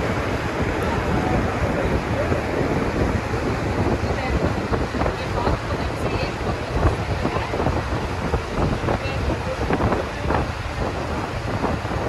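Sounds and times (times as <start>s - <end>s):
wind and water rushing: 0.0s - 12.0s
wind buffeting microphone: 0.0s - 12.0s.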